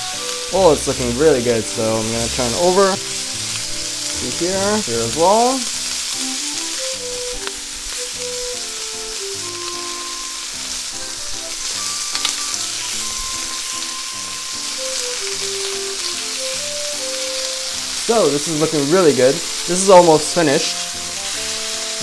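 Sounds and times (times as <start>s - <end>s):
skewers sizzling in oil: 0.0s - 22.0s.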